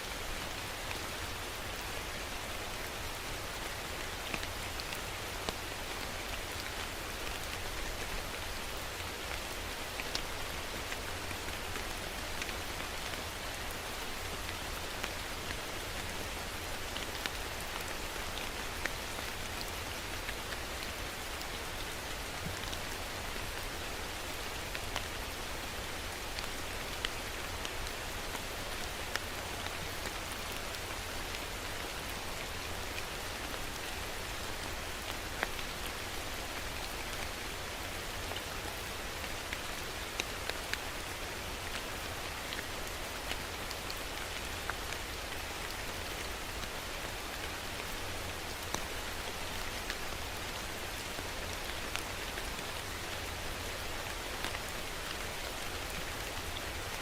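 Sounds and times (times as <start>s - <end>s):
steady rain hissing: 0.0s - 57.0s.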